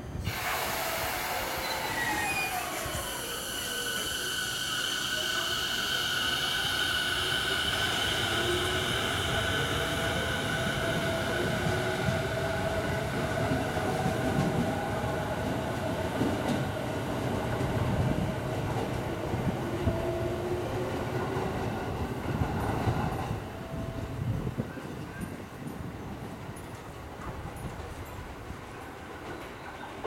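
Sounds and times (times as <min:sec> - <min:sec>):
train high whine: 0:00.0 - 0:25.7
train wheels rumbling on rail: 0:00.0 - 0:30.0.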